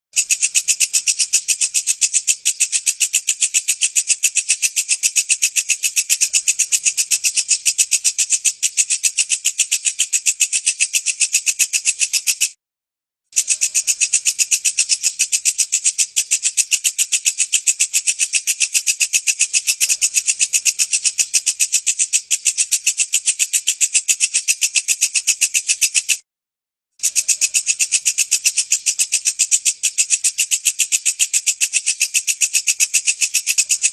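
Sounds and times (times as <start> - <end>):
bush cricket buzzing chirp: 0.2 - 12.5, 13.4 - 26.2, 27.0 - 33.9.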